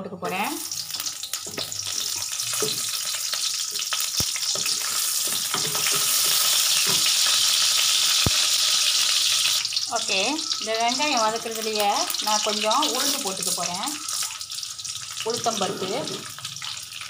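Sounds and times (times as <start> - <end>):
onions sizzling in oil: 0.2 - 17.0.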